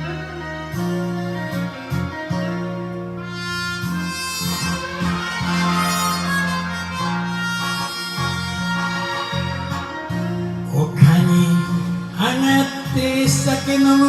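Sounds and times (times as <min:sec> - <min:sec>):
bass line and accompaniment: 0:00.0 - 0:14.0
reedy lead melody: 0:00.0 - 0:14.0.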